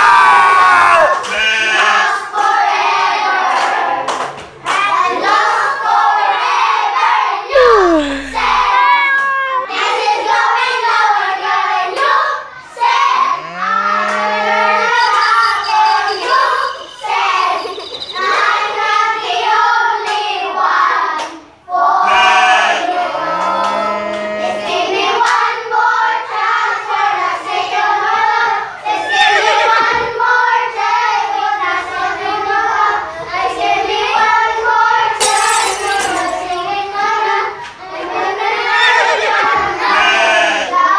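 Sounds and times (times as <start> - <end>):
children singing together: 4.7 - 35.2, 36.4 - 40.9.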